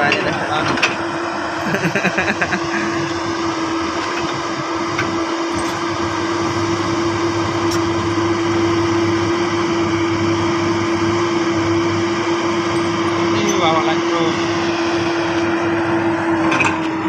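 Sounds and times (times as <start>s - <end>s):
excavator diesel engines running: 0.0s - 17.0s
high hydraulic whine: 0.0s - 17.0s.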